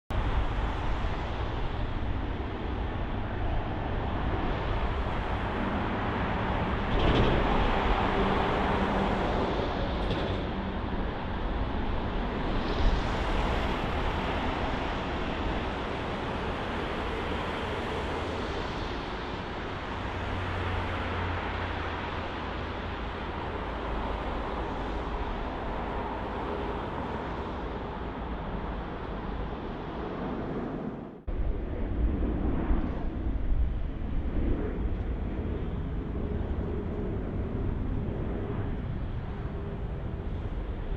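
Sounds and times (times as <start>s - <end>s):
jet engines running: 0.1s - 40.9s.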